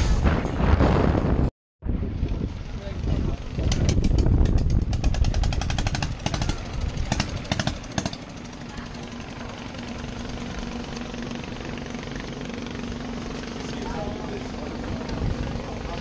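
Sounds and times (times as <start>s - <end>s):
motor humming: 2.9s - 16.0s
rapid rattling clatter: 3.1s - 16.0s.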